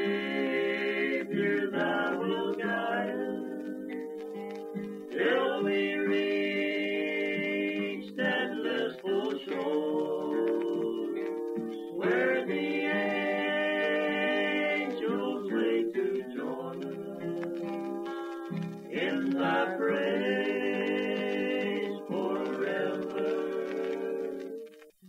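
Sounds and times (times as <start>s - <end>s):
voices singing in harmony: 0.0s - 4.0s, 4.8s - 24.9s.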